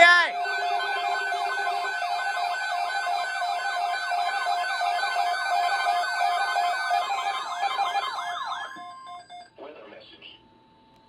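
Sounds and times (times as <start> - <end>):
pulsing electronic beeps: 0.0 - 9.5
sweeping siren-like tones: 0.0 - 9.5.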